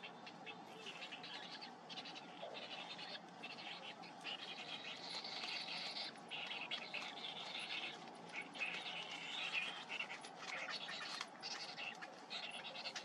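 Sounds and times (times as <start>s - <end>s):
bird chicks chattering calls: 0.0s - 13.0s
insects humming: 0.0s - 13.0s.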